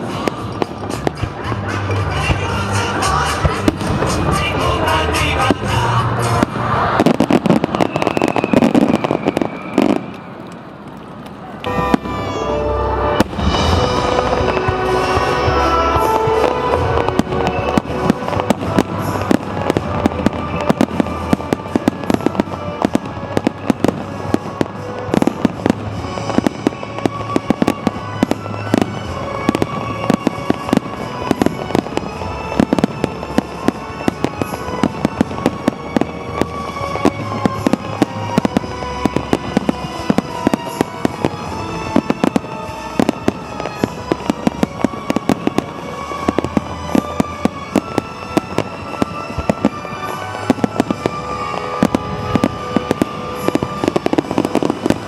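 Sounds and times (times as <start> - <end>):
music playing: 0.0 - 10.0, 11.6 - 55.0
fireworks bangs and crackles: 0.0 - 55.0.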